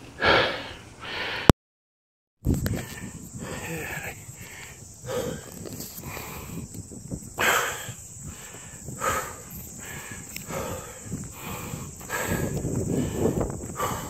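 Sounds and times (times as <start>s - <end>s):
person gasping breaths: 0.2s - 1.5s, 2.7s - 6.7s, 7.4s - 14.0s.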